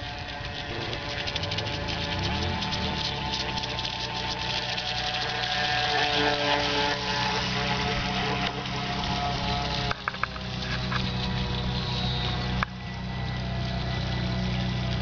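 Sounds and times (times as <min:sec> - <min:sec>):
drive shaft hum: 0:00.0 - 0:15.0
electric motor whine: 0:00.0 - 0:15.0.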